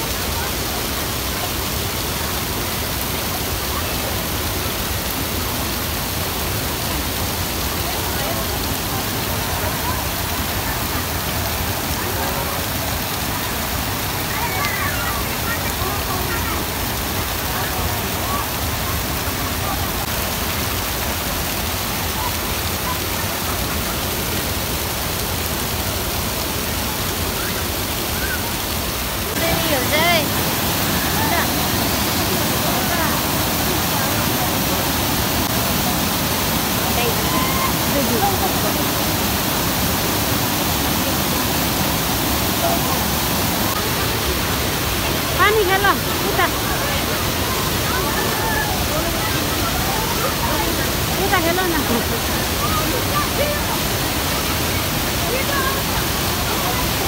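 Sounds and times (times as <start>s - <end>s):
waterfall rushing over ledges: 0.0s - 57.0s.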